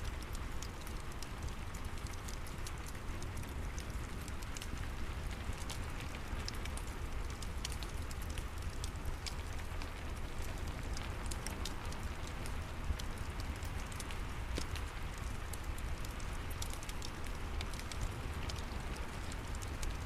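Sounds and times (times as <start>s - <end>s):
steady rain: 0.0s - 20.0s
wood fire crackling and popping: 0.0s - 20.0s.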